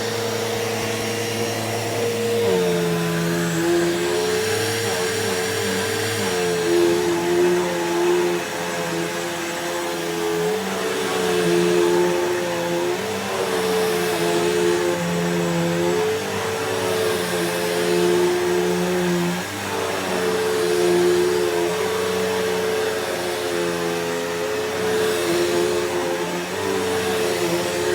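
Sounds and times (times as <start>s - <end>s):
vacuum cleaner on carpet: 0.0s - 27.9s.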